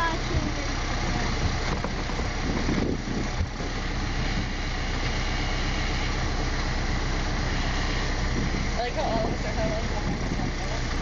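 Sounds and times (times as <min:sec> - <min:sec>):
tractor engine under load: 0:00.0 - 0:11.0.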